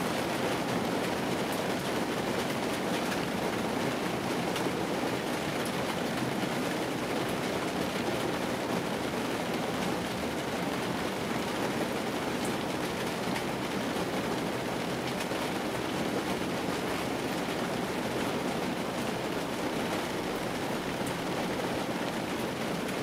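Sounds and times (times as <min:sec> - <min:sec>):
rain on car roof: 0:00.1 - 0:23.0.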